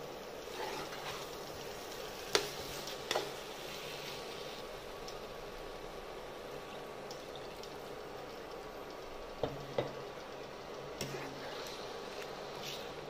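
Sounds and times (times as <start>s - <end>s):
pan bubbling and hissing: 0.0s - 13.0s.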